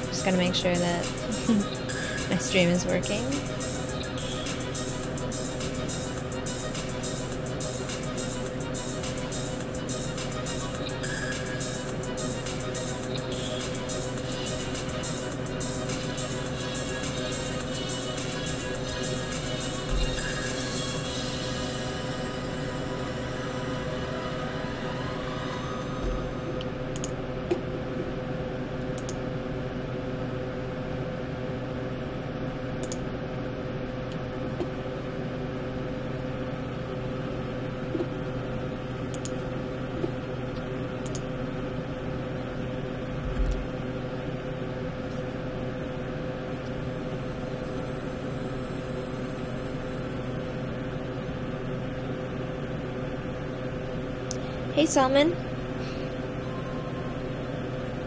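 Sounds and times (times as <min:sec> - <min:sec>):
computer fan hum: 0:00.0 - 0:58.0.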